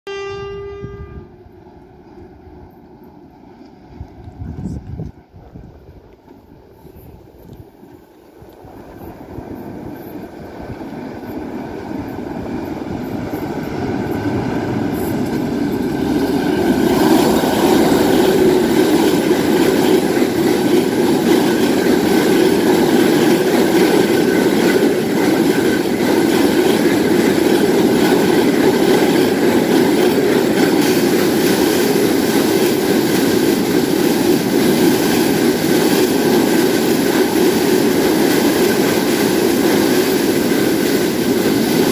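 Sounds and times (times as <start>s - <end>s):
freight train crossing steel bridge: 0.1s - 41.9s.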